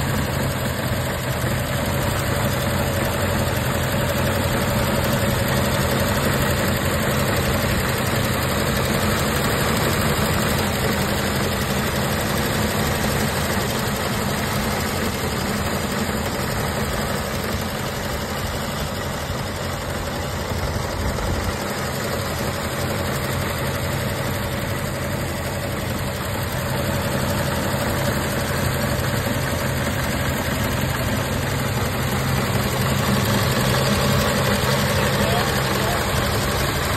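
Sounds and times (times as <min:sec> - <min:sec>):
truck engine idling: 0:00.0 - 0:36.9.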